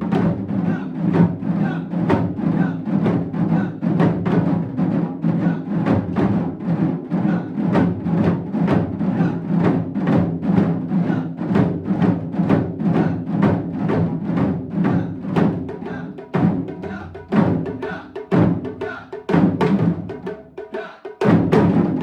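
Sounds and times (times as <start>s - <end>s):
taiko drums beating: 0.0s - 22.0s.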